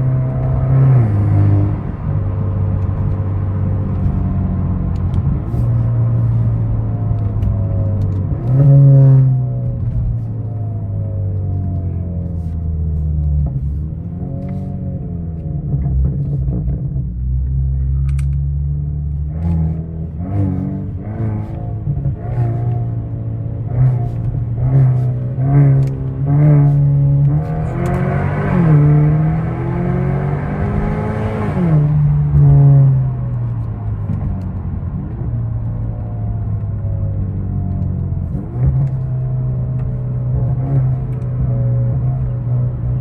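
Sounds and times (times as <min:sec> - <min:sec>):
car engine rumble: 0:00.0 - 0:43.0.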